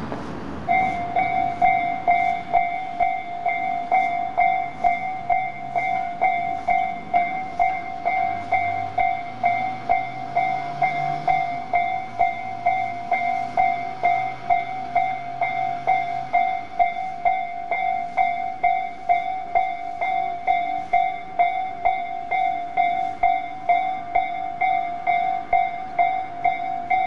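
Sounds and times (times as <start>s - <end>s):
level crossing warning bell: 0.6s - 27.0s.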